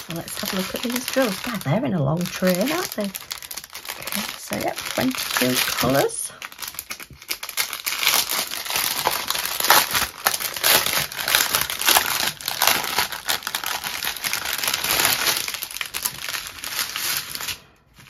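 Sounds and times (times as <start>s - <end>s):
plastic wrapping crinkling: 0.0s - 18.0s.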